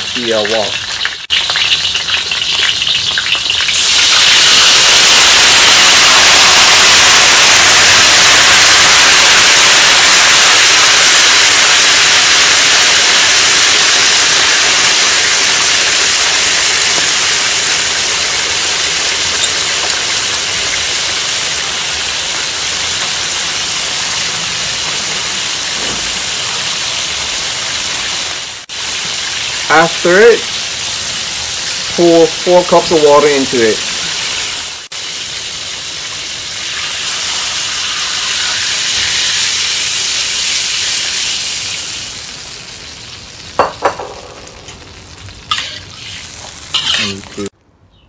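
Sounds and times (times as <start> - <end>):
hot oil sizzling in a wok: 0.0 - 47.6
liquid poured into hot oil hissing: 2.9 - 47.5.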